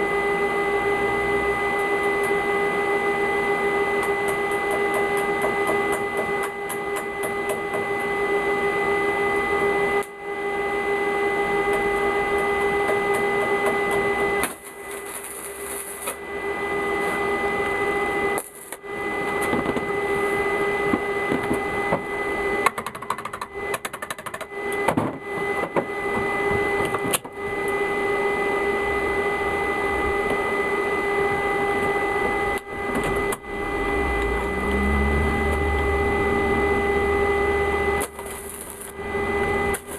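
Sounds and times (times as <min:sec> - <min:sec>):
arc welding buzz with crackle: 0:00.0 - 0:39.9.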